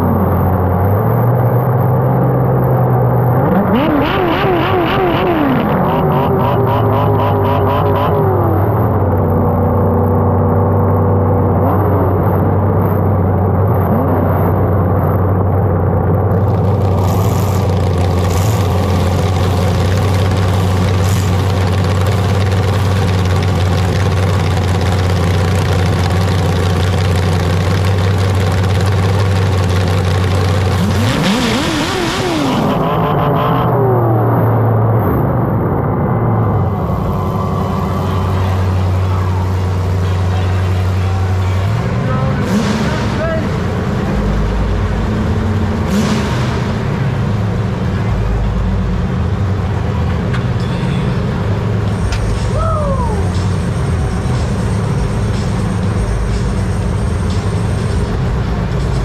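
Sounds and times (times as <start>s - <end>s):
loud engine revving: 0.0s - 50.3s.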